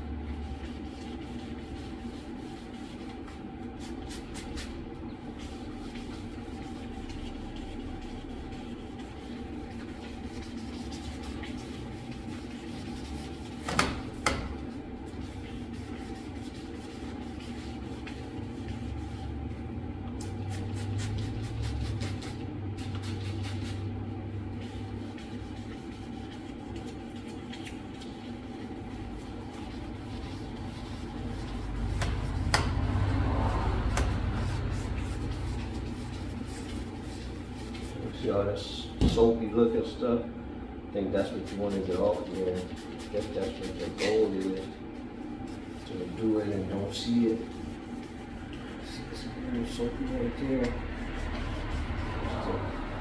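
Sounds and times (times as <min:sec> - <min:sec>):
sandpaper rubbing plastic: 0:00.3 - 0:19.3, 0:20.2 - 0:38.4, 0:41.2 - 0:53.0.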